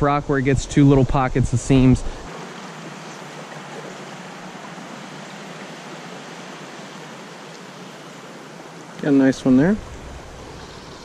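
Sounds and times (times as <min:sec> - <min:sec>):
stream current rushing: 0:00.0 - 0:11.0.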